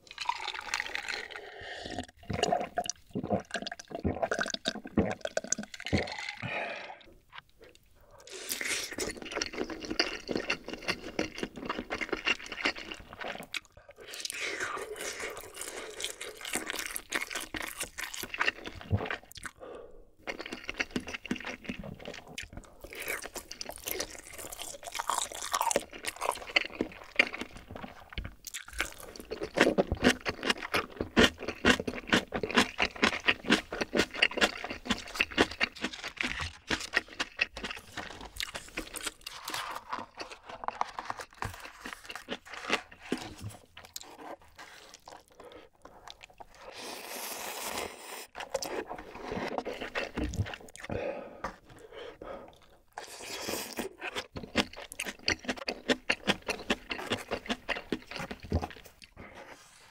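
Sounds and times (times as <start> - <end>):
crunchy chewing: 7.4 - 19.6, 20.2 - 50.9, 52.5 - 59.2.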